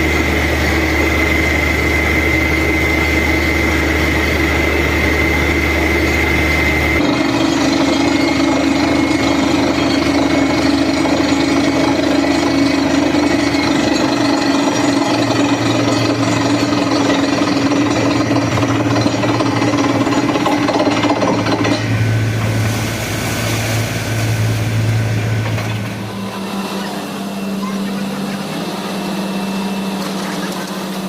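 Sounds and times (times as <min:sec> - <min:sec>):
drilling rig running: 0:00.0 - 0:31.0.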